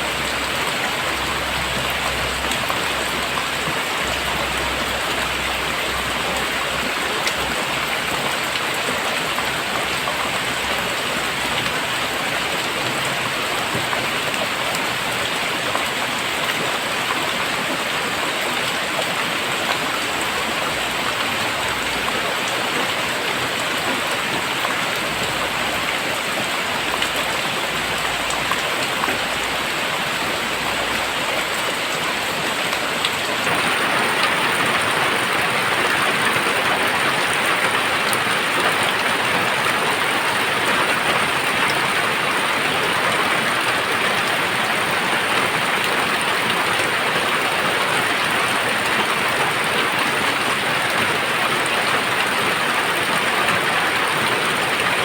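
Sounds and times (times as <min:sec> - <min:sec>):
very heavy rain: 0:00.0 - 0:55.0.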